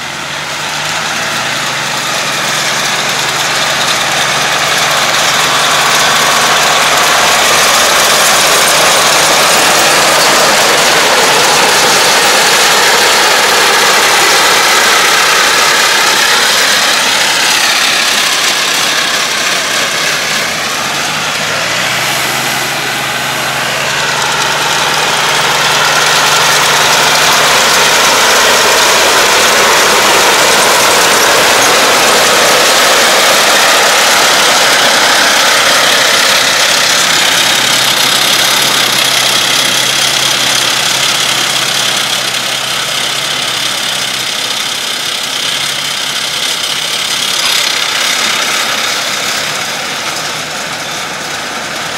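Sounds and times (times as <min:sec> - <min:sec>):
baler working: 0:00.0 - 0:51.9
tractor diesel engine running: 0:00.0 - 0:51.9.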